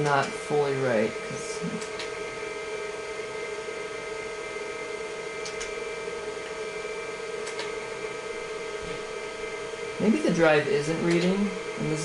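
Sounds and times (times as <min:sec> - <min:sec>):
computer fan and hard drive hum: 0:00.0 - 0:12.0.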